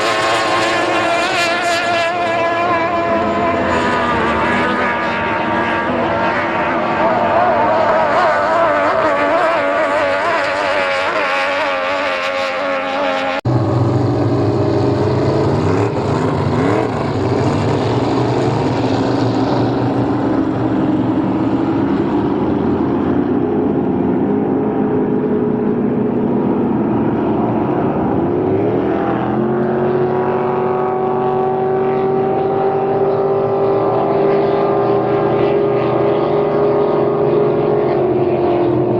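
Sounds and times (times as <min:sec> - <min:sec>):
racing powerboat engines droning: 0:00.0 - 0:38.9.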